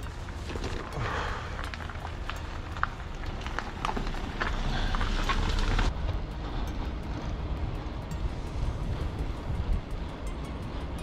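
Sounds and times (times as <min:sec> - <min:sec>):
bike clicks and knocks: 0:00.0 - 0:11.0
wind rumbling on microphone: 0:00.0 - 0:11.0.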